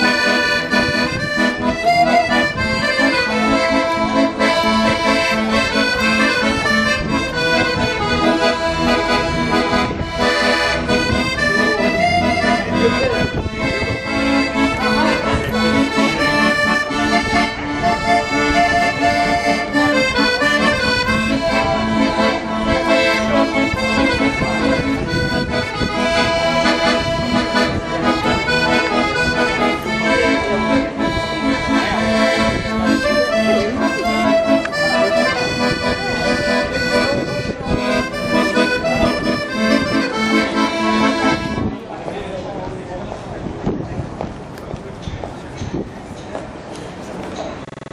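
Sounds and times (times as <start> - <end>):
accordion playing a tune: 0.0 - 42.1, 47.6 - 47.9.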